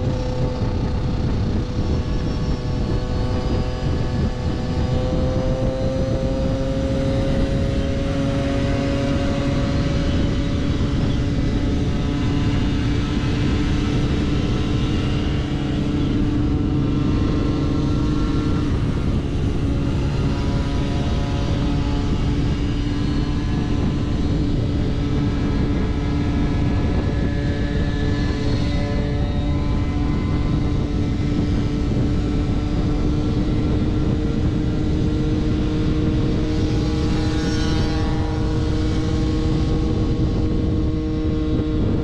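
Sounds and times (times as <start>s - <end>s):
moped engines cruising: 0.0s - 42.0s
wind rumble on microphone: 0.0s - 42.0s.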